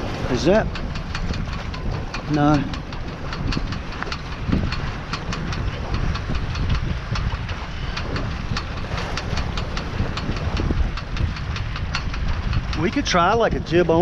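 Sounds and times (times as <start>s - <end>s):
rushing wind and water: 0.0s - 14.0s
rapid ticking: 0.4s - 14.0s.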